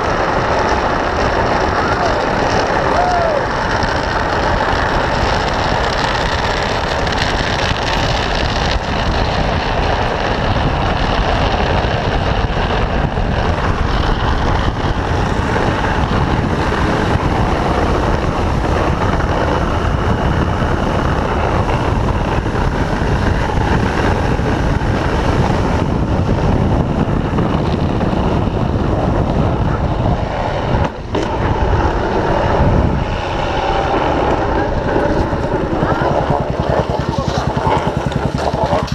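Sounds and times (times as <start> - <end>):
plastic wheels sliding on asphalt: 0.0 - 38.9
wind rushing on microphone: 0.0 - 38.9.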